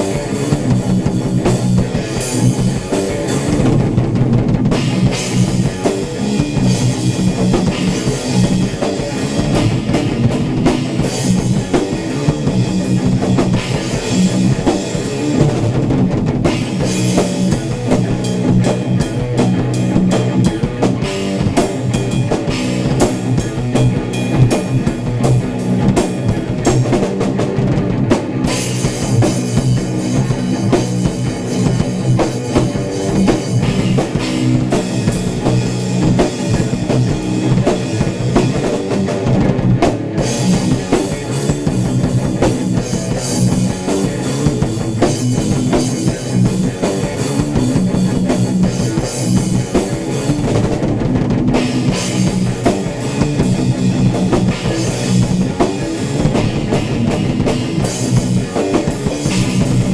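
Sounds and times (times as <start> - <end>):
drum kit playing rock: 0.0 - 59.9
electric guitar: 0.0 - 59.9.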